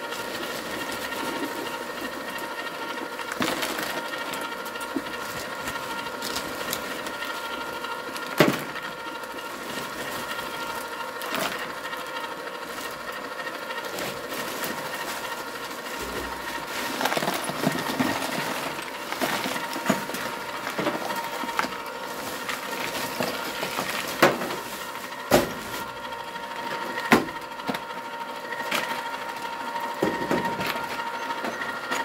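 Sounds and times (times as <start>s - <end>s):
ice cream maker motor whine: 0.0s - 32.0s
ice cubes clattering: 0.1s - 26.0s.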